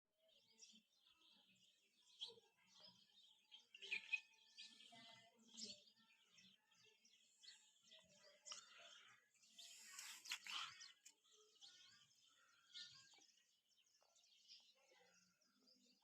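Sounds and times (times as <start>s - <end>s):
faint bird chirping: 0.2s - 16.0s.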